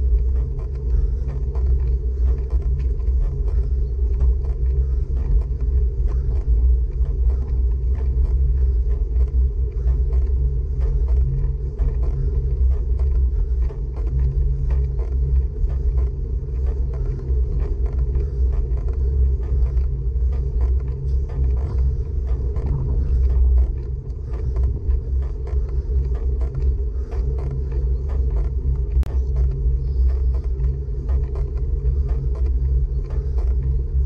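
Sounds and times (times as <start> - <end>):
small clicks and ticks: 0.0 - 34.0
wind and road rumble: 0.0 - 34.0.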